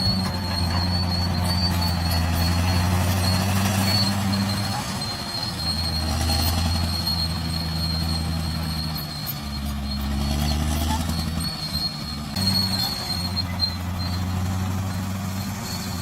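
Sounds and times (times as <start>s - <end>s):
bulldozer diesel engine running: 0.0s - 16.0s
high-pitched track squeal: 0.0s - 16.0s.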